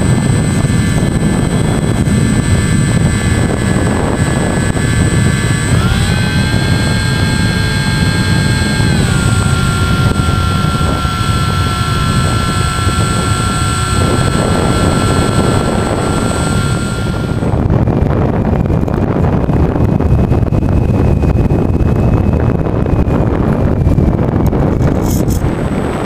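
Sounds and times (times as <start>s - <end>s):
electric motor whining: 0.0s - 26.0s
wind rush on microphone: 0.0s - 26.0s.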